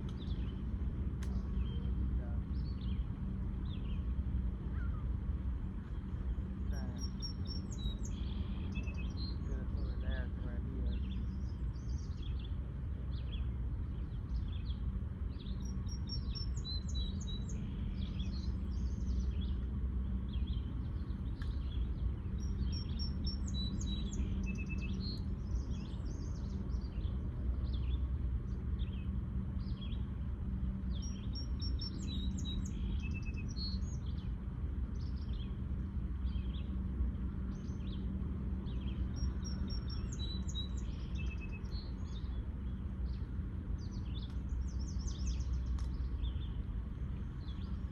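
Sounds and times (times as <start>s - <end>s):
songbirds chirping and singing: 0.0s - 47.9s
steady low hum: 0.0s - 47.9s.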